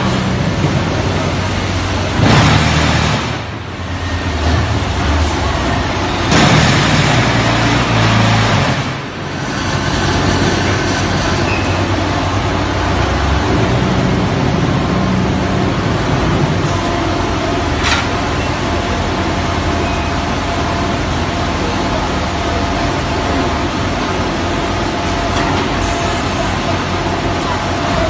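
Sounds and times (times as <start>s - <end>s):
loud machine noise: 0.0s - 28.0s.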